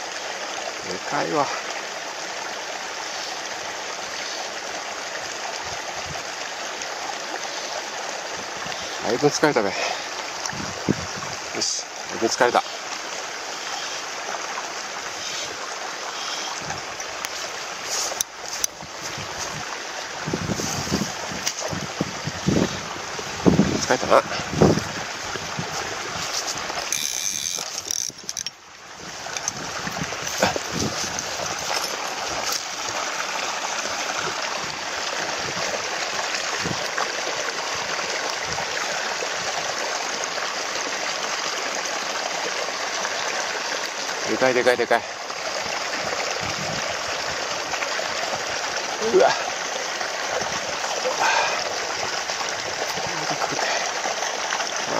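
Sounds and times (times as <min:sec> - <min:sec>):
water running into pond: 0:00.0 - 0:54.9.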